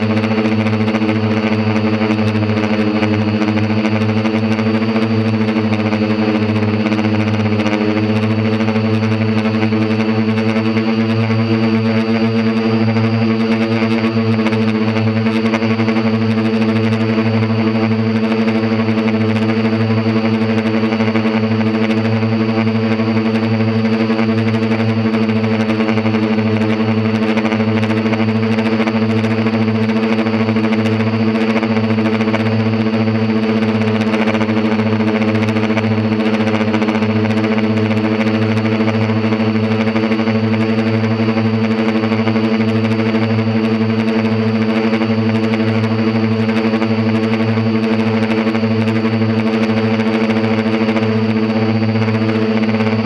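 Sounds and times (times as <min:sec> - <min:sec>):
drone propellers humming: 0:00.0 - 0:53.0
faint high whine: 0:00.0 - 0:53.0.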